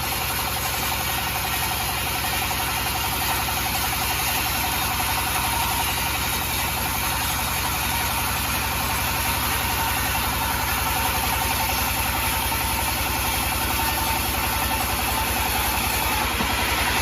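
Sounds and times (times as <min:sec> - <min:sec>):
sawmill machinery sawing a log: 0:00.0 - 0:17.0.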